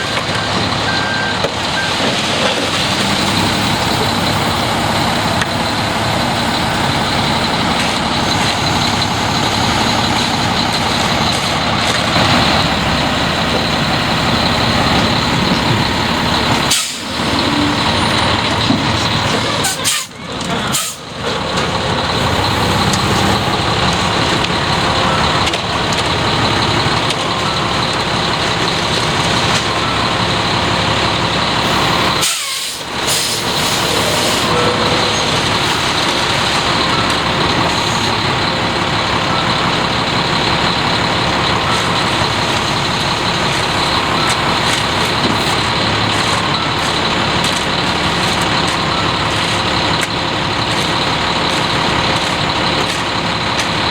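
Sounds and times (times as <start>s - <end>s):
concrete mixer truck running: 0.0s - 53.9s.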